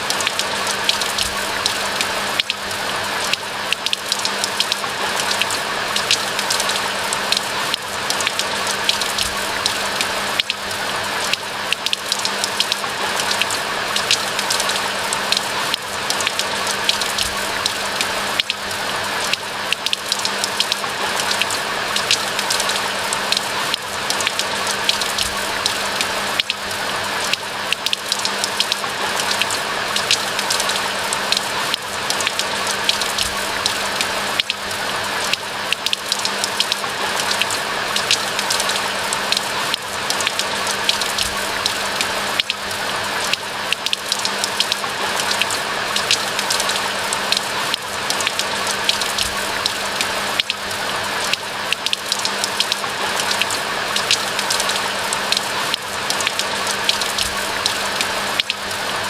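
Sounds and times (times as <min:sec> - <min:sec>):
steady rain in a forest: 0:00.0 - 0:59.0
close rain drop ticks: 0:00.1 - 0:58.7.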